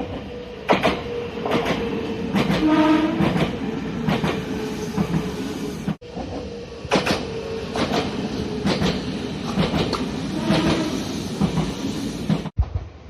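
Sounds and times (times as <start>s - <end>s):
train rumble: 0.0s - 13.0s
train wheels clicking over joints: 0.7s - 12.5s.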